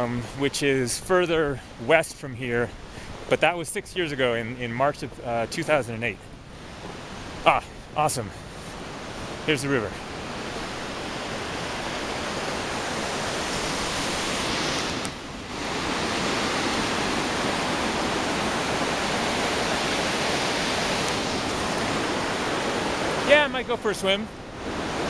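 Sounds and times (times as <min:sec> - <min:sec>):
mountain river rushing: 0:00.0 - 0:25.0.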